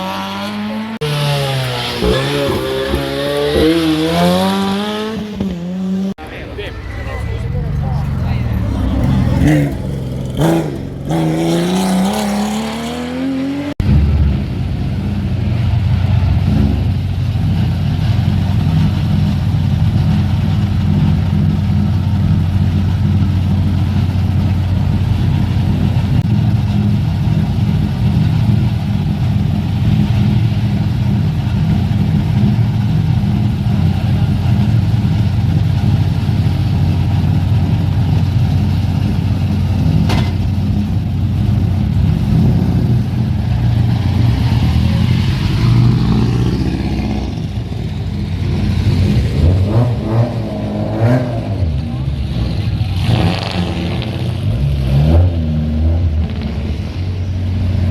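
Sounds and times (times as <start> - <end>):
steady engine note: 0.0 - 54.7
rally car engine accelerating: 0.0 - 57.9.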